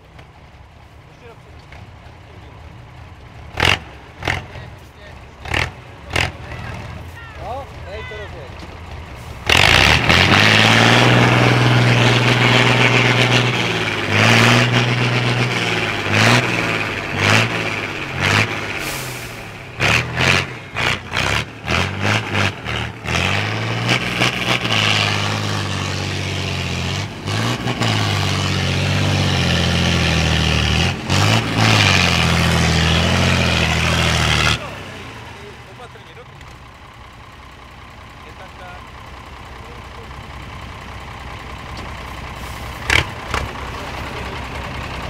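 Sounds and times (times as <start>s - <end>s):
diesel truck engine revving: 0.0s - 45.0s.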